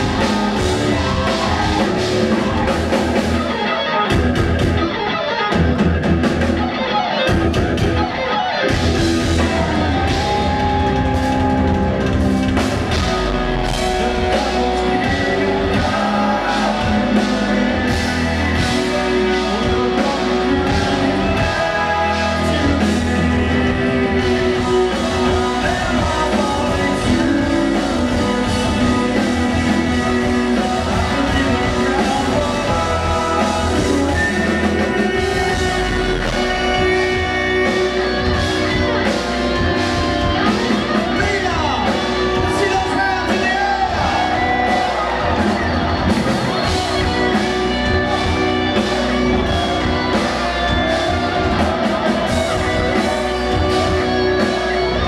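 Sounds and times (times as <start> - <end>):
person singing: 0.0 - 4.2, 8.2 - 55.0
metal band playing live: 0.0 - 55.0.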